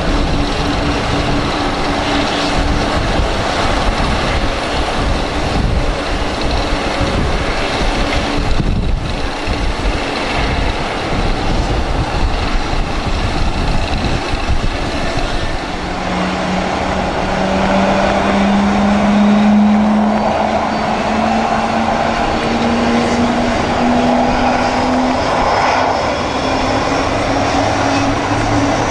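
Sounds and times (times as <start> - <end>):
heavy low rumble: 0.0 - 28.9
jet engine spooling up: 0.0 - 28.9.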